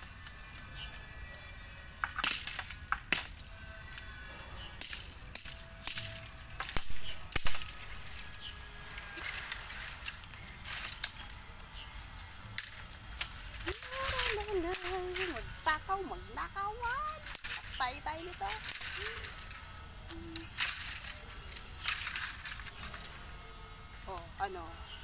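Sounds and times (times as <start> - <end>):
blade chopping bamboo canes: 1.7 - 15.6, 16.8 - 23.5.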